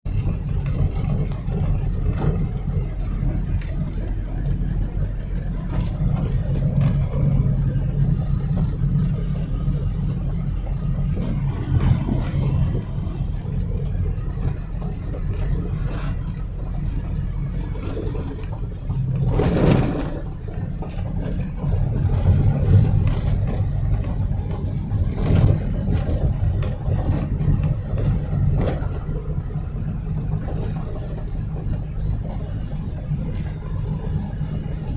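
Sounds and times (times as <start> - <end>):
vehicle driving on road: 0.0 - 34.9.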